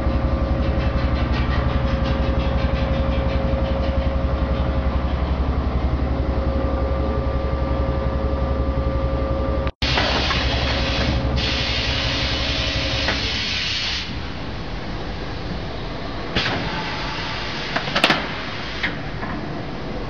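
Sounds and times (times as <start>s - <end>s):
machine hum: 0.0s - 16.3s
vacuum forming machine air rush: 0.0s - 20.0s.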